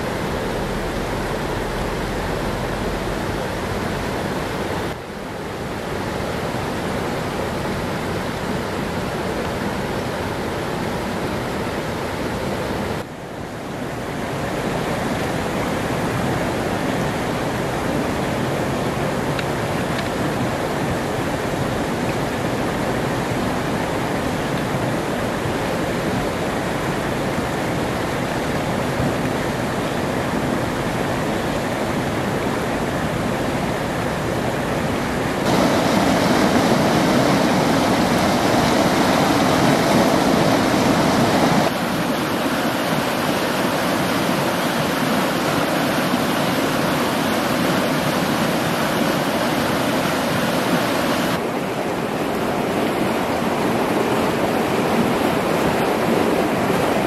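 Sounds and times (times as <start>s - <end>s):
river rapids rushing over rocks: 0.0s - 57.0s.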